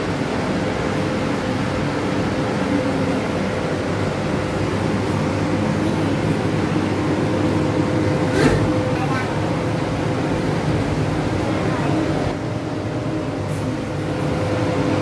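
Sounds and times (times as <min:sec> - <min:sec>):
electric fan air rush: 0:00.0 - 0:15.0.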